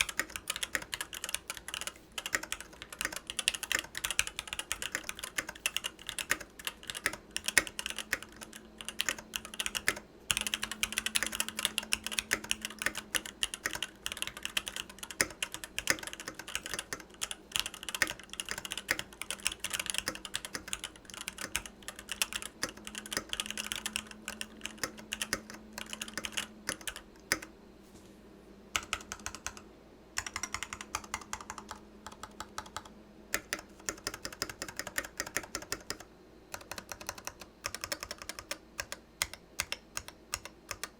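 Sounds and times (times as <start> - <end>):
fast typing on mechanical keyboard: 0.0 - 27.5, 28.8 - 29.6, 30.2 - 40.9.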